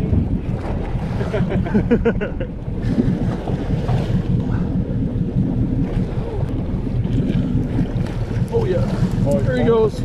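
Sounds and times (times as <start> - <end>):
boat rumble: 0.0 - 10.0
sea water: 0.0 - 10.0
wind buffeting microphone: 0.0 - 10.0.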